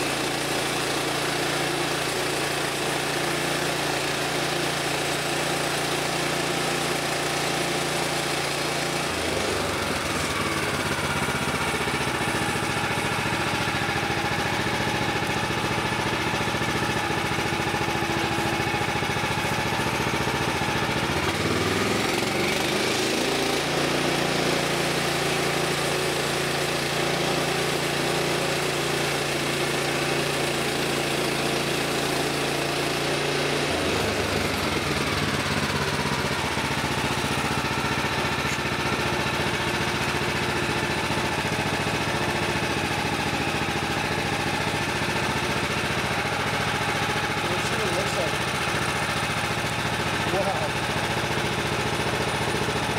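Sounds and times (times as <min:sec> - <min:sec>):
gasoline engine running: 0:00.0 - 0:52.9.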